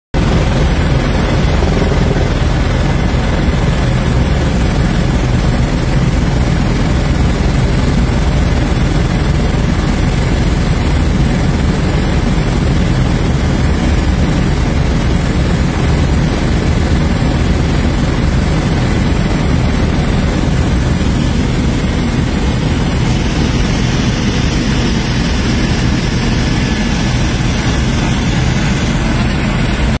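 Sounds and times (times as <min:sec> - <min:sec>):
helicopter engine and rotor drone: 0:00.1 - 0:30.0.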